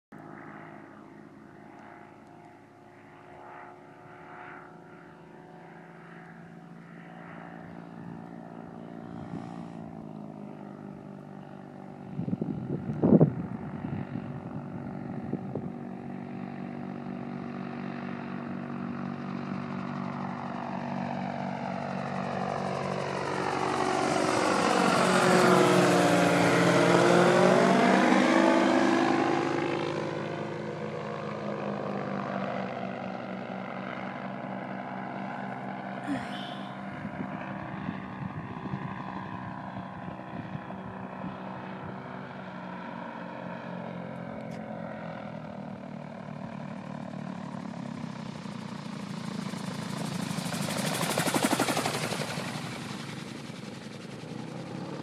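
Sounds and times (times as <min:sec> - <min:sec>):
gyrocopter engine and propeller drone: 0:00.1 - 0:55.0.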